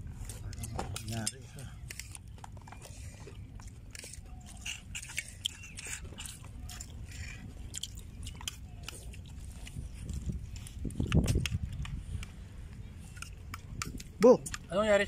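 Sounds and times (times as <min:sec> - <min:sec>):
chewing: 0:00.1 - 0:14.7.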